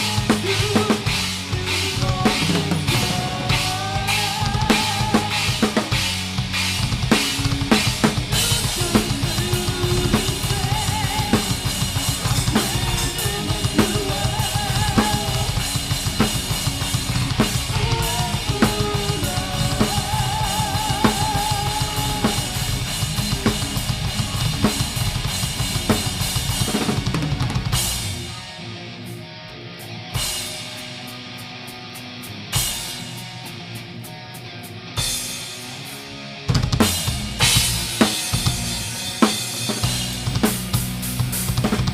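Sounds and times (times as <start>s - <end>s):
rapid bass drum strokes: 0.0s - 28.4s, 36.5s - 41.9s
electric guitars: 0.0s - 41.9s
heavy metal band playing: 0.0s - 41.9s.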